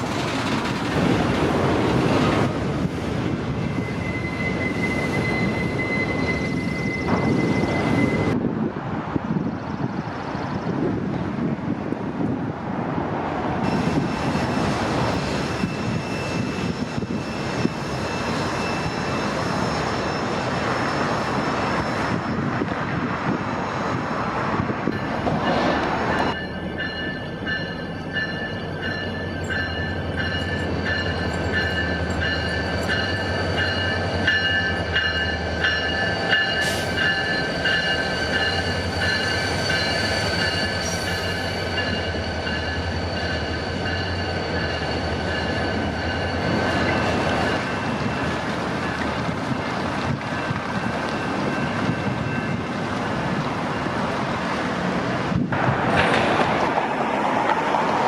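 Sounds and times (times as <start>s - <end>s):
diesel locomotive engine drone: 0.0s - 58.0s
freight cars rolling on rails: 0.0s - 58.0s.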